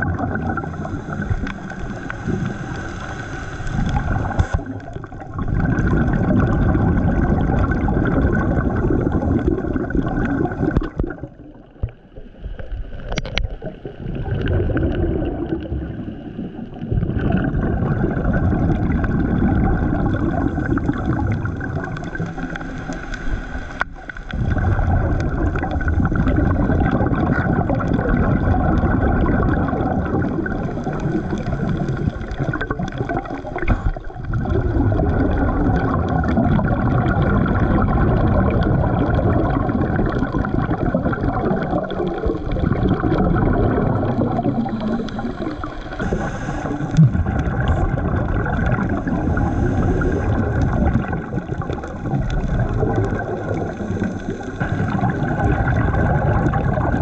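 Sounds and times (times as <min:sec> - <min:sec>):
underwater rushing and gurgling water: 0:00.0 - 0:57.0.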